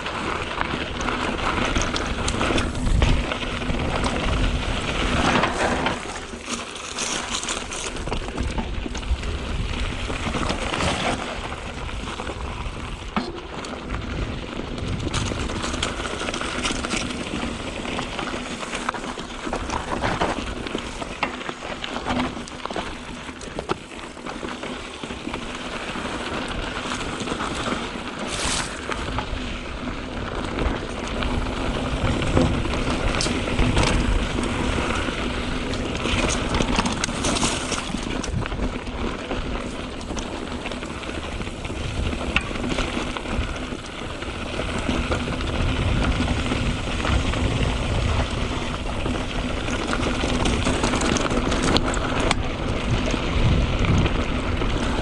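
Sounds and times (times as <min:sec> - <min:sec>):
bike clicks and rattles: 0:00.0 - 0:55.0
bike tyres crunching over dirt: 0:00.0 - 0:55.0.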